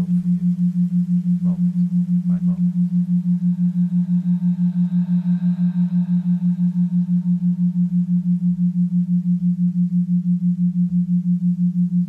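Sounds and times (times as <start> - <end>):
faint high ringing overtones: 0.0 - 12.0
pulsing low drone tone: 0.0 - 12.0.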